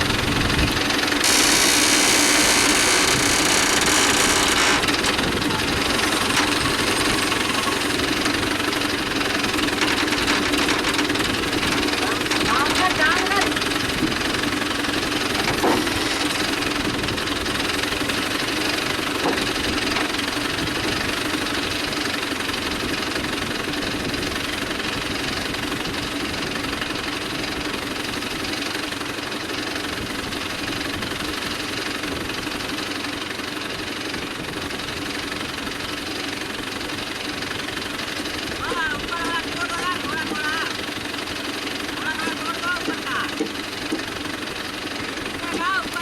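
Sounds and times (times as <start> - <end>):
crane diesel engine running: 0.0 - 29.2, 34.1 - 46.0.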